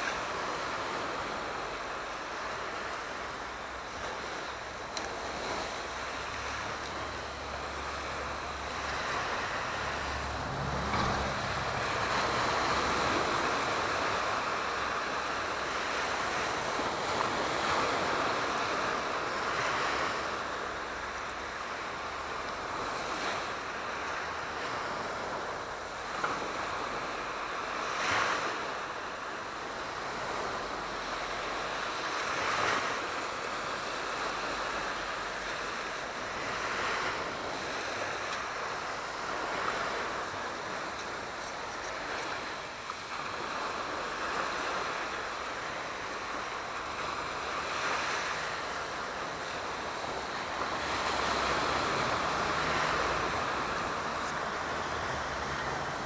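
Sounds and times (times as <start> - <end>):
sea waves washing in: 0.0 - 56.0.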